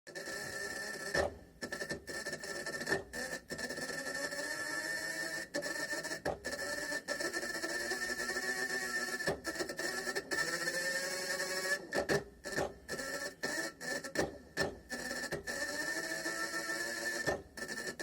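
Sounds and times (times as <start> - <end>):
motor whining and humming: 0.2 - 18.0.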